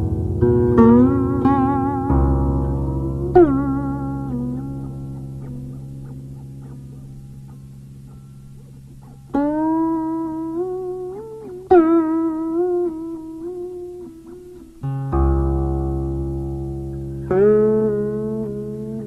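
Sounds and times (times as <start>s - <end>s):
deep low zither note: 0.0s - 19.0s
plucked zither notes sliding: 0.0s - 19.0s.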